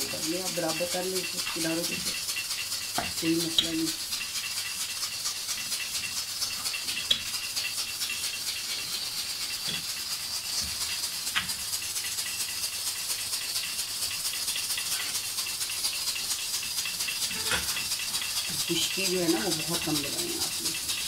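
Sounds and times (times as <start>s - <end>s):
flatbread crackling on hot pan: 0.0s - 21.0s.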